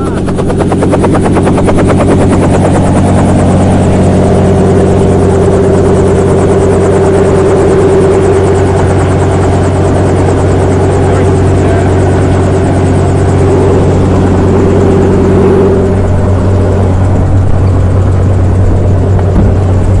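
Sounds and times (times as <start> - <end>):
helicopter engine whine: 0.0 - 20.0
helicopter rotor beat: 0.0 - 20.0.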